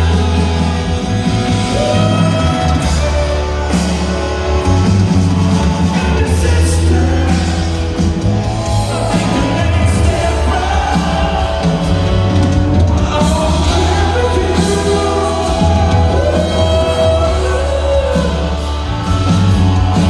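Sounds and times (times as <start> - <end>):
heavy bass line: 0.0 - 20.0
live band playing: 0.0 - 20.0
person singing: 0.0 - 20.0.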